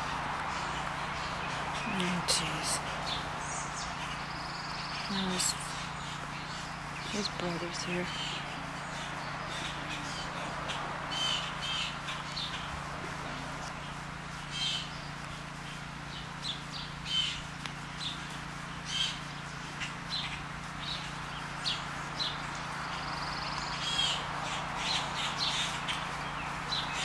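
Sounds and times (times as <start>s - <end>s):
blue jays calling: 0.0s - 27.0s
steady low hum: 0.0s - 27.0s.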